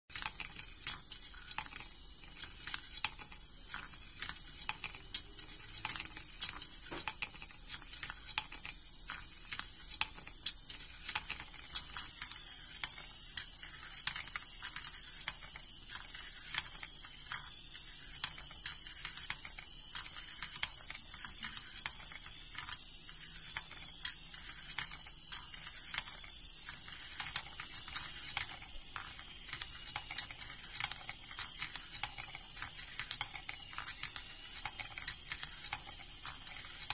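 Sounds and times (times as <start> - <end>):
marble machine clattering clicks: 0.1 - 36.9
motor hissing: 1.1 - 36.9.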